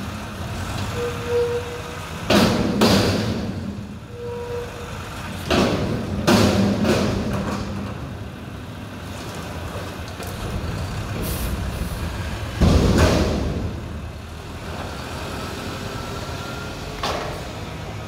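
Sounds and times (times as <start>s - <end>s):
garbage truck diesel engine running: 0.0s - 18.0s.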